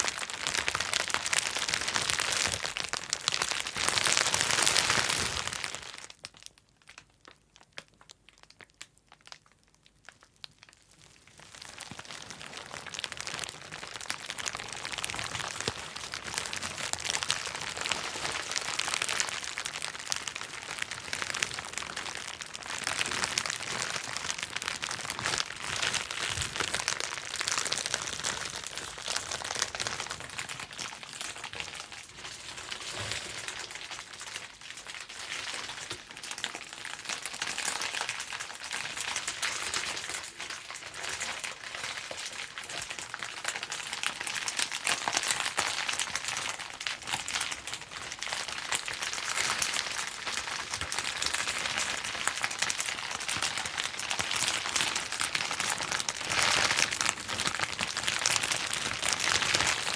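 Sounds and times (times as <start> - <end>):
bubble wrap popping: 0.0 - 59.9.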